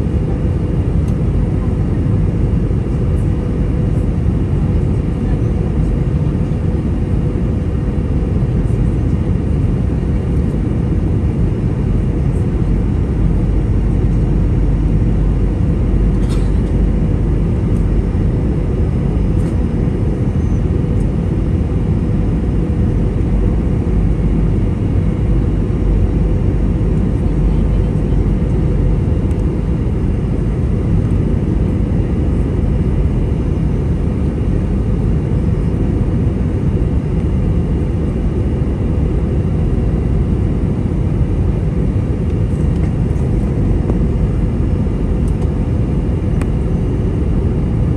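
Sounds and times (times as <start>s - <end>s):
airplane cabin rumble: 0.0s - 47.9s.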